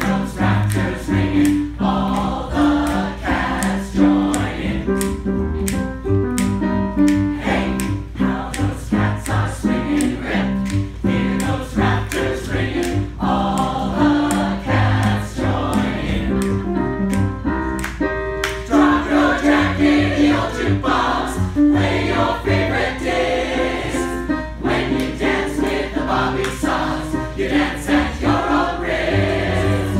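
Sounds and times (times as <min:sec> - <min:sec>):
group of people singing: 0:00.0 - 0:05.2, 0:07.2 - 0:16.7, 0:18.7 - 0:29.9
pop backing music: 0:00.0 - 0:29.9.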